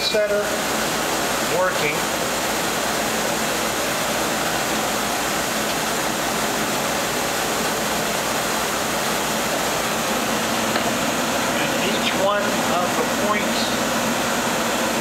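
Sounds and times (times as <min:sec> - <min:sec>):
lathe running with rushing hiss: 0:00.0 - 0:15.0.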